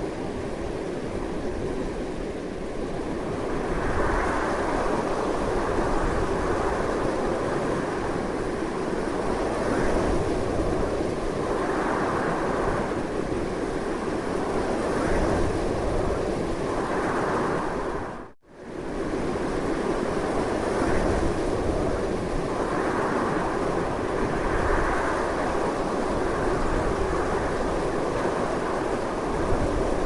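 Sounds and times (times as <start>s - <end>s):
strong wind blowing: 0.0s - 30.0s.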